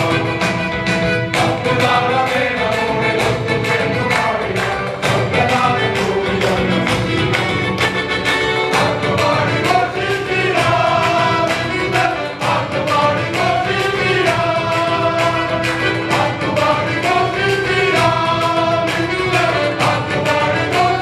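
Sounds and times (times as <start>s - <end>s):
hand-clapping: 0.0s - 21.0s
men's choir singing: 0.0s - 21.0s.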